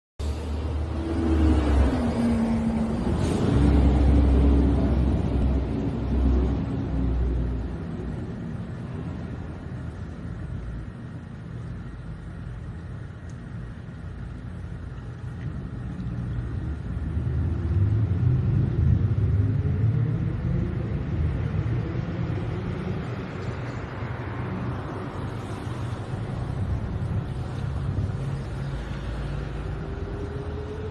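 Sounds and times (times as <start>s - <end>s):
low engine-like rumble: 0.2s - 30.9s.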